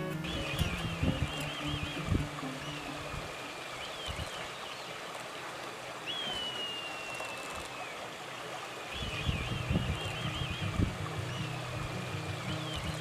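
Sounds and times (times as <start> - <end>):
kites whistling calls: 0.0 - 4.9, 6.0 - 8.0, 8.9 - 13.0.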